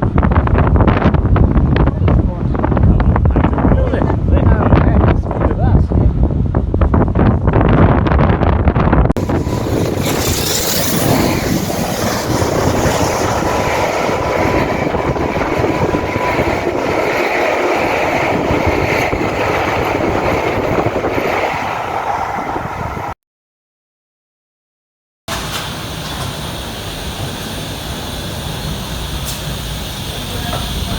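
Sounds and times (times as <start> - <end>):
train rumbling on rails: 0.0 - 23.2, 25.3 - 30.9.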